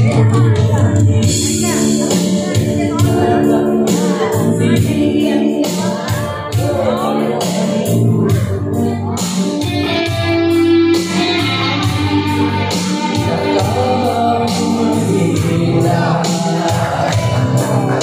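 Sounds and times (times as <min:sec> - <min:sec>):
karaoke backing music: 0:00.0 - 0:18.0
man singing into microphone: 0:00.0 - 0:18.0.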